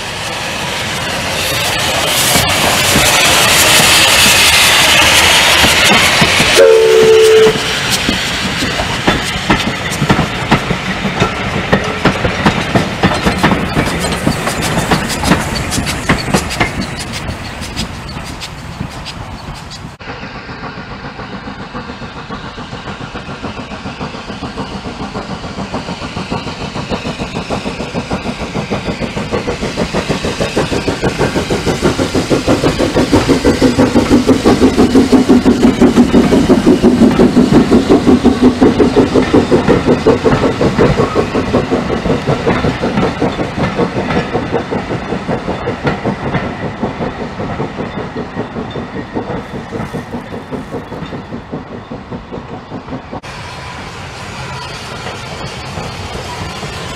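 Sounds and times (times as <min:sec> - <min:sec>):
steam locomotive exhaust beating: 0:00.0 - 0:56.9
coaches clattering on rails: 0:01.5 - 0:53.3.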